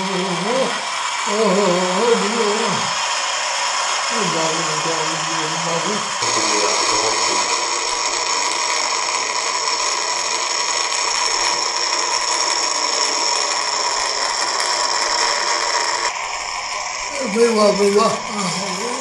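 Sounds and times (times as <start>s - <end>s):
rocket engines roaring: 0.0s - 19.0s.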